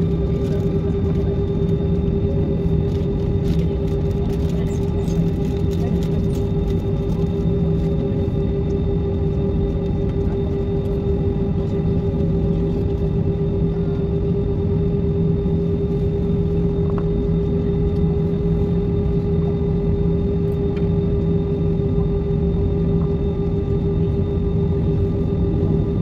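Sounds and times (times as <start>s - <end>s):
jet engines idling in cabin: 0.0s - 26.0s.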